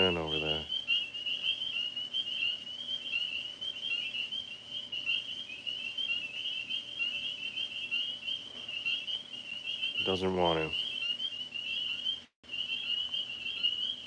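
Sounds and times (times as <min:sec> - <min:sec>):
tree frogs trilling chorus: 0:00.0 - 0:14.0.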